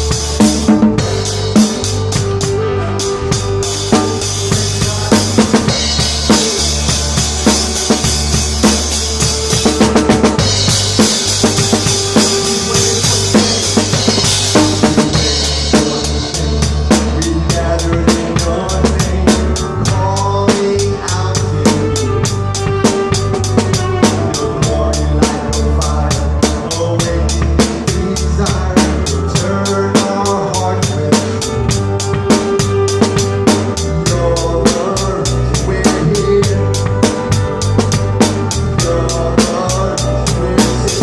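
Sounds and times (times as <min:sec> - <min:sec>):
drum kit beat: 0:00.0 - 0:41.0
worship band playing: 0:00.0 - 0:41.0.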